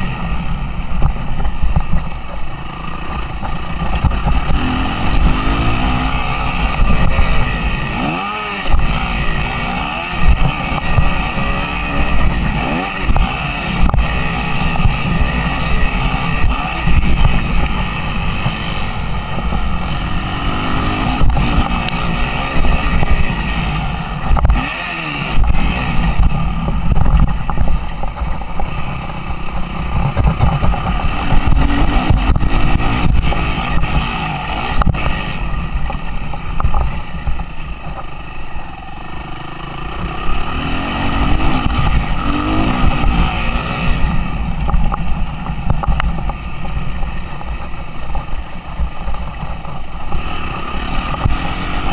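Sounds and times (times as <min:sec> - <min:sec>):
motocross engine revving: 0:02.6 - 0:47.4, 0:50.0 - 0:51.9.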